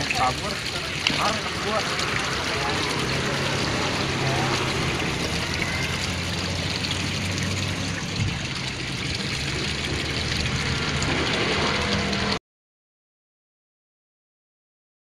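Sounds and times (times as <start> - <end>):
outdoor background noise: 0.0 - 12.4.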